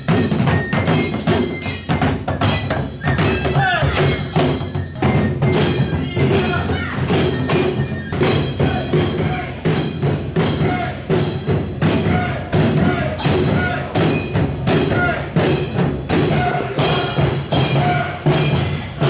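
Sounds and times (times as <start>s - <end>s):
bamboo flute melody: 0.0s - 19.0s
drums beaten with sticks: 0.0s - 19.0s.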